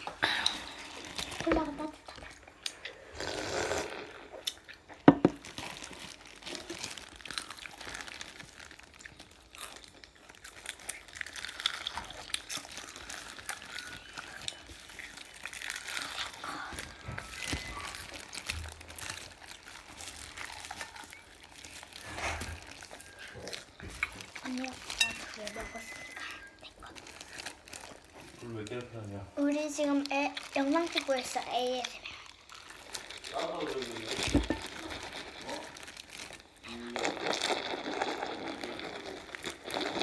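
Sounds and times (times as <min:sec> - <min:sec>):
wrapping crinkling: 0:00.0 - 0:02.6, 0:05.0 - 0:40.0
crisp bites and chewing: 0:04.3 - 0:29.0, 0:29.9 - 0:40.0.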